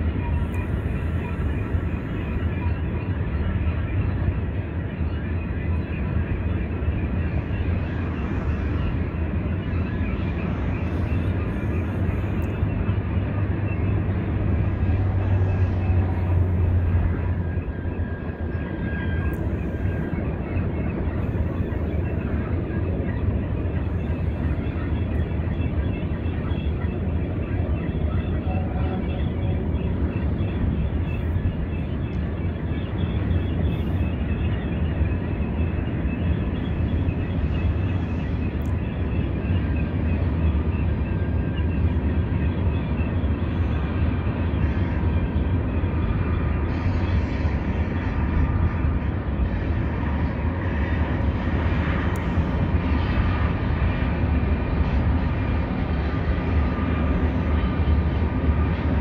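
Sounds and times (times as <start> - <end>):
faint high steady tones: 0.0 - 54.2
diesel locomotive: 0.0 - 59.0
freight train rumbling on rails: 0.0 - 59.0.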